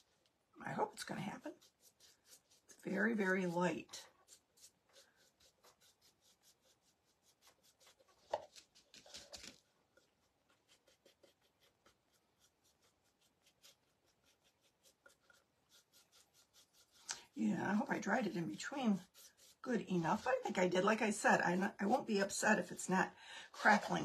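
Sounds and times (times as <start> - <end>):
paintbrush strokes scratching: 0.0 - 24.0.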